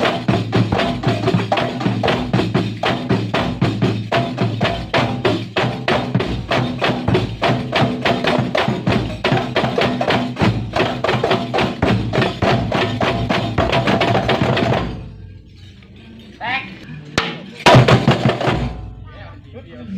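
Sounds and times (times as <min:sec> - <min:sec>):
fast dense percussion: 0:00.0 - 0:15.7, 0:17.2 - 0:19.2.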